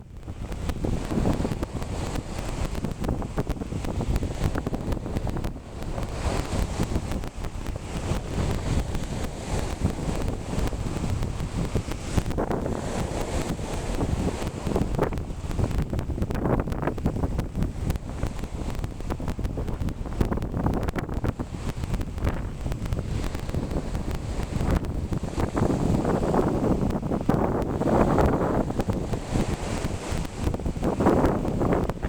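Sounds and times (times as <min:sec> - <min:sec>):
waves breaking on shore: 0:00.0 - 0:32.0
wind buffeting microphone: 0:00.0 - 0:32.0.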